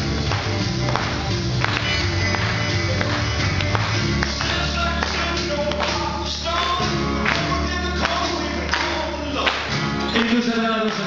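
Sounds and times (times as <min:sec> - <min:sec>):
rock and roll song with singing: 0:00.0 - 0:11.0.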